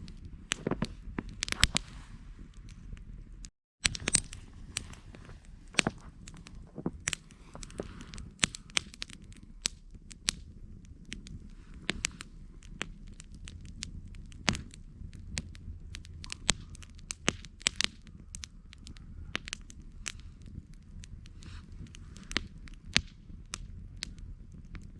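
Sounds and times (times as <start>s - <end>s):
campfire crackling and popping: 0.0s - 24.9s
low steady rumble: 0.0s - 24.9s.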